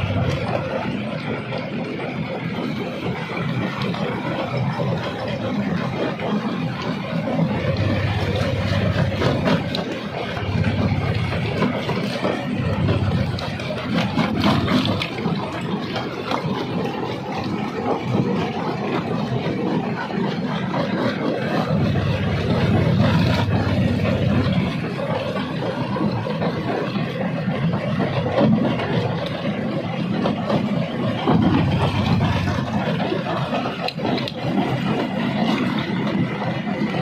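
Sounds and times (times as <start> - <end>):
heavy machine rumble: 0.0 - 37.0.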